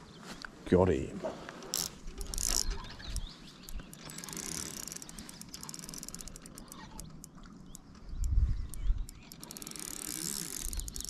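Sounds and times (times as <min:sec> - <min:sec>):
handling rustle: 0:01.3 - 0:11.0
fishing reel ratchet clicking: 0:01.7 - 0:11.0.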